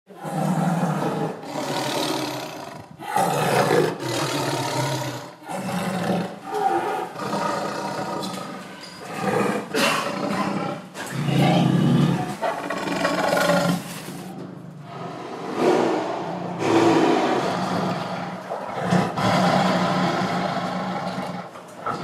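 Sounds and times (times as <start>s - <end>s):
tiger roaring: 0.1s - 22.0s.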